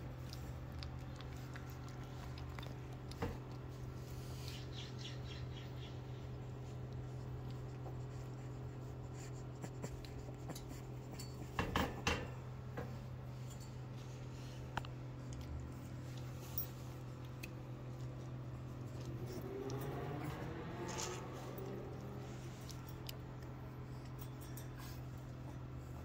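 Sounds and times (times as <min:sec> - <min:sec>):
electric fan humming: 0:00.0 - 0:26.0.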